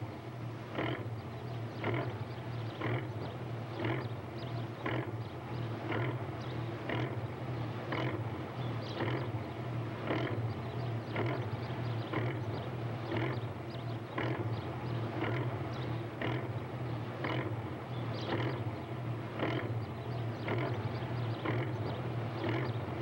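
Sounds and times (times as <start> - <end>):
boat engine chugging: 0.0 - 23.0.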